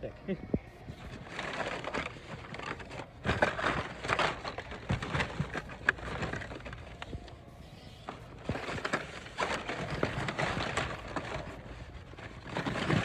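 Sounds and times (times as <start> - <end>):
blister cards rustling and clacking: 0.9 - 7.4, 8.0 - 13.0.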